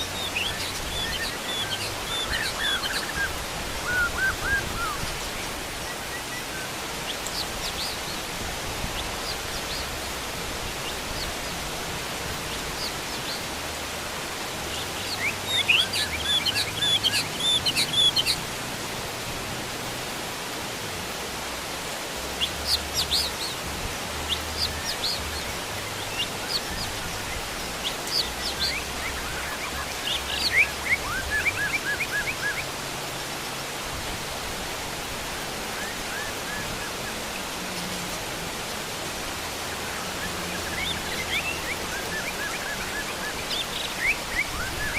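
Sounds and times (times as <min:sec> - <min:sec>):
birds chirping and trilling: 0:00.0 - 0:44.9
heavy rain falling: 0:00.0 - 0:44.9.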